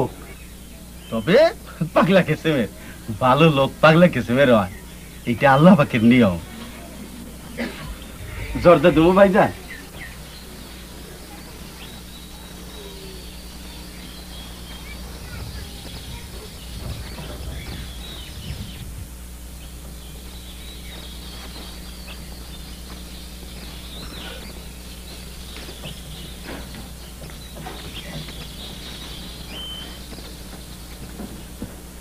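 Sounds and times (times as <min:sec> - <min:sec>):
faint bird chirps: 0:00.0 - 0:31.6
low hum and hiss: 0:00.0 - 0:32.0.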